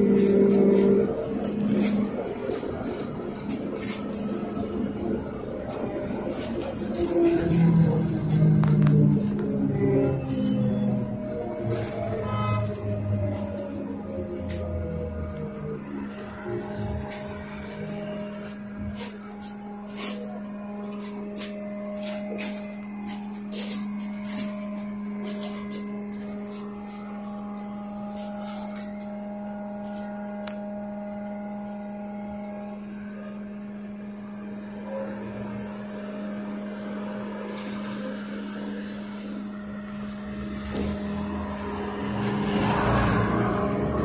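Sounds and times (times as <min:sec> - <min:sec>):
low electric hum: 0:00.0 - 0:44.0
trolleybus pulling away: 0:00.0 - 0:44.0.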